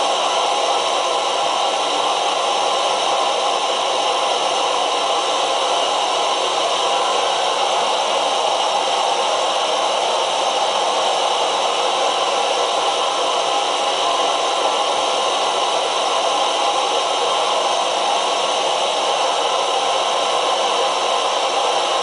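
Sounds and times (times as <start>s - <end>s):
gas stove burner hissing: 0.0s - 22.0s.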